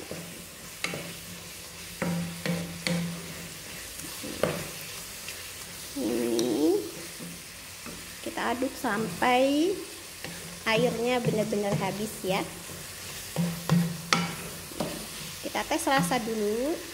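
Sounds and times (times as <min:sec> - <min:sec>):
food sizzling in a pan: 0:00.0 - 0:16.9
wooden spatula scraping a pan: 0:00.0 - 0:16.9.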